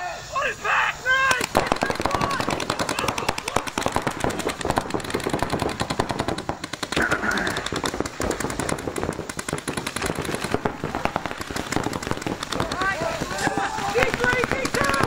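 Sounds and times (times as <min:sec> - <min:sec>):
paintball markers firing: 0:01.3 - 0:15.0.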